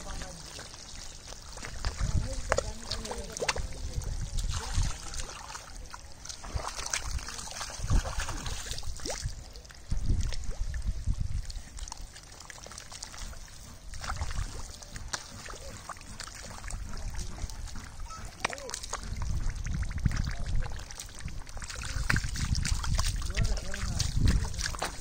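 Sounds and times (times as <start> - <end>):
muddy water sloshing and splashing: 0.0 - 25.0.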